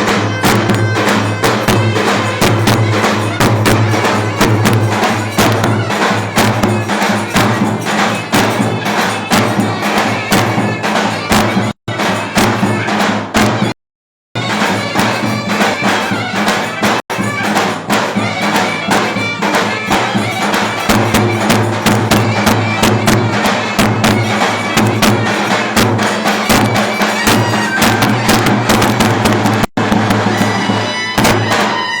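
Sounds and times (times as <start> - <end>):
drum beat: 0.0 - 13.8, 14.4 - 32.0.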